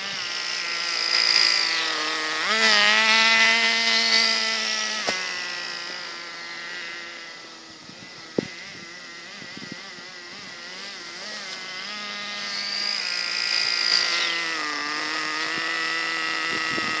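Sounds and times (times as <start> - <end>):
small nitro engine running: 0.0 - 17.0.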